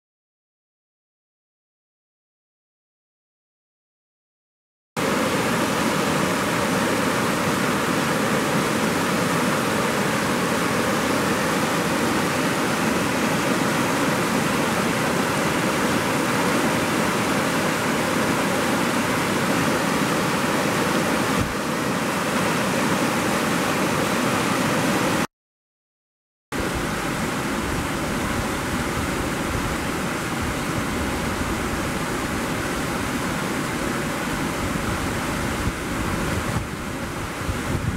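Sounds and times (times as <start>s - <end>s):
floodwater roaring: 5.0s - 25.3s, 26.6s - 37.9s.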